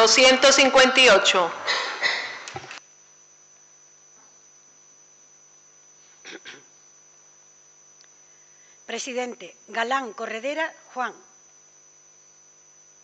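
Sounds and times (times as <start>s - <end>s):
sound system electrical hum: 0.0s - 13.0s.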